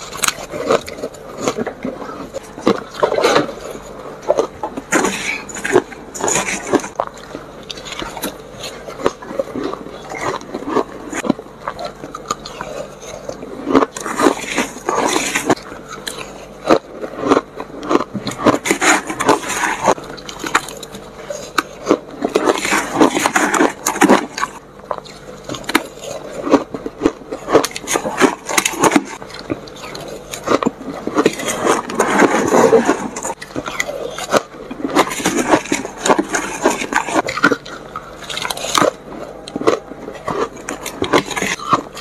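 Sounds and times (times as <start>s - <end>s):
crunching and chewing shaved ice: 0.0s - 42.0s.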